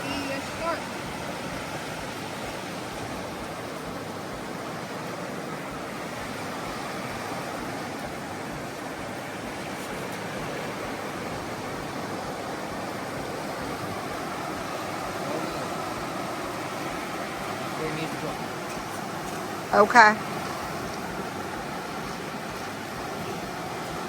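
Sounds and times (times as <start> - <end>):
surf breaking on a beach: 0.0 - 24.0.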